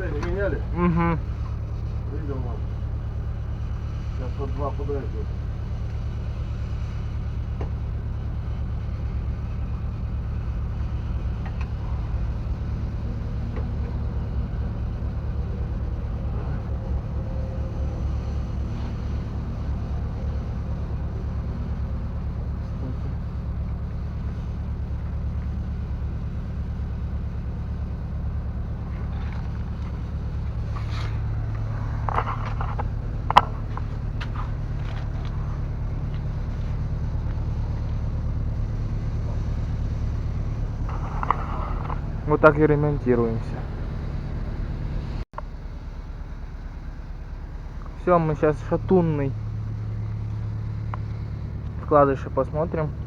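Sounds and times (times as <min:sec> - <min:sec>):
low engine drone: 0:00.0 - 0:53.0.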